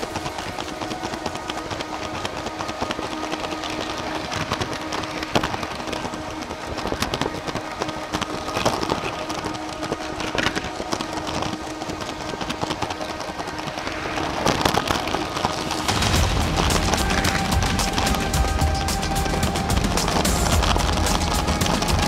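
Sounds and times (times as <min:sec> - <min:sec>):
music: 0:00.0 - 0:22.0
toy train wheels clattering: 0:00.0 - 0:22.0.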